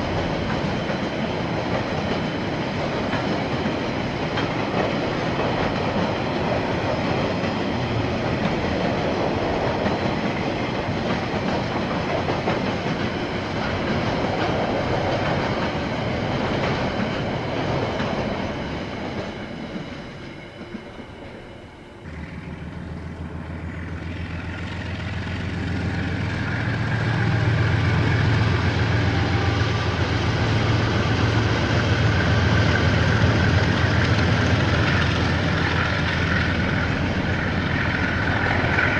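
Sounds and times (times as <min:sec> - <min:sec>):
low locomotive engine: 0:00.0 - 0:38.9
train wagons clickety-clack on rails: 0:00.0 - 0:38.9.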